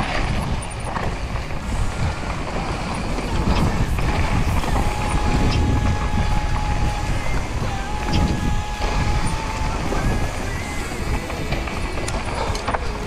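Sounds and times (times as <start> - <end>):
bike tyres rumbling over dirt: 0.0 - 13.0
steady high tone: 1.7 - 13.0.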